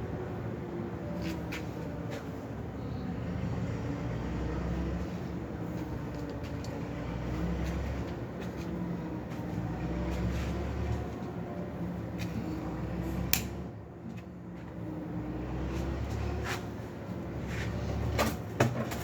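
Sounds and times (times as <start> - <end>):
low mechanical rumble and hum: 0.0 - 19.0.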